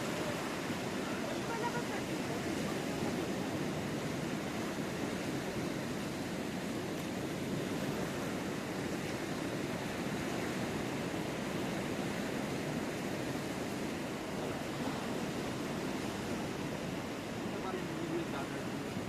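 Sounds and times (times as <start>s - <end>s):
ocean surf rushing: 0.0s - 19.0s.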